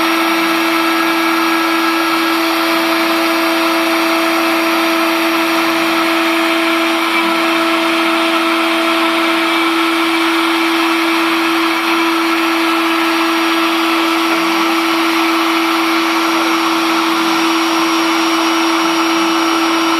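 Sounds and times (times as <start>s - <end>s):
cutting hiss: 0.0s - 19.9s
router motor whine: 0.0s - 19.9s.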